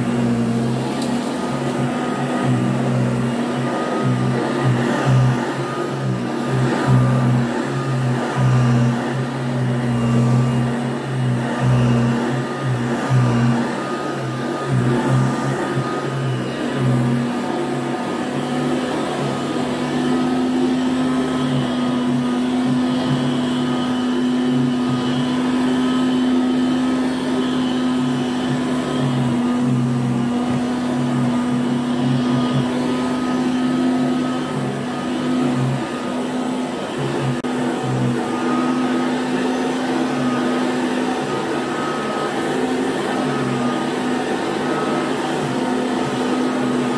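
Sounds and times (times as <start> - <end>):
vacuum cleaner running on carpet: 0.0 - 46.9.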